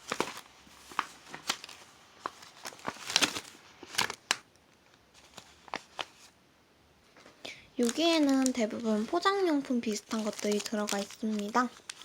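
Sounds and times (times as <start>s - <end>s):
plastic packaging crinkling: 0.0s - 4.4s, 5.2s - 6.3s, 7.8s - 12.0s.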